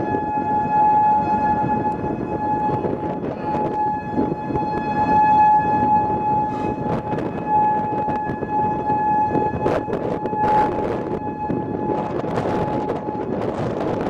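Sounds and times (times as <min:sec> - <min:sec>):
warning siren: 0:00.0 - 0:14.0
wind rumble: 0:00.0 - 0:14.0.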